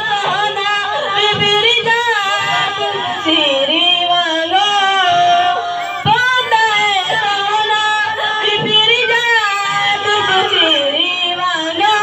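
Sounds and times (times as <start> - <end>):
boys singing devotional chant: 0.0 - 12.0.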